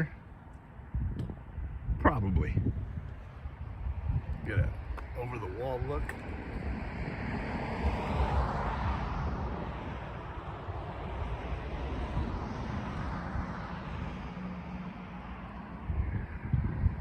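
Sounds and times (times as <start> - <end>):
traffic rumble: 0.0 - 17.0
vehicle passing: 2.6 - 17.0.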